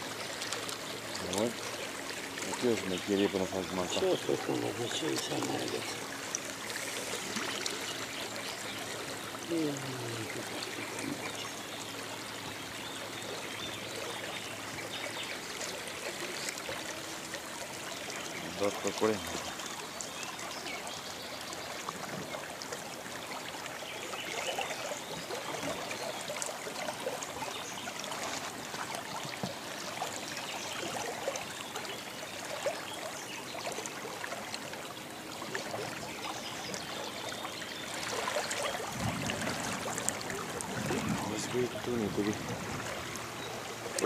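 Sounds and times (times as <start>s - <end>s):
water lapping against boat: 0.0s - 44.0s.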